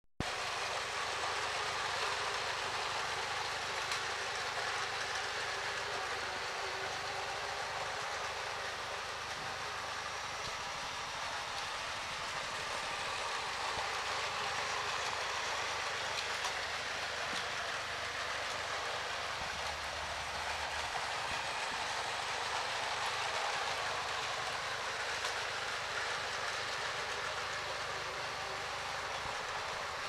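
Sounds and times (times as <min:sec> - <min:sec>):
toy train motor whirring: 0:00.3 - 0:30.0
toy train wheels rattling: 0:00.3 - 0:30.0.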